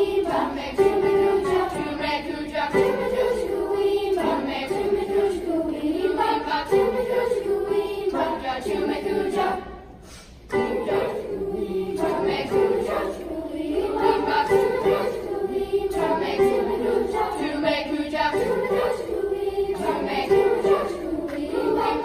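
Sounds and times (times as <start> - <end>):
children's choir singing: 0.0 - 22.0.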